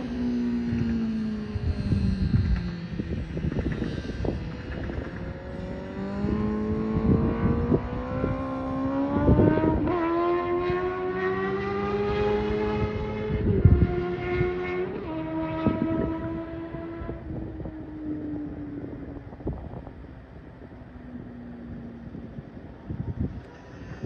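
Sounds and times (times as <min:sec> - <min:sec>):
distant motorcycle engine revving: 0:00.0 - 0:20.0
wind buffeting microphone: 0:00.0 - 0:24.0.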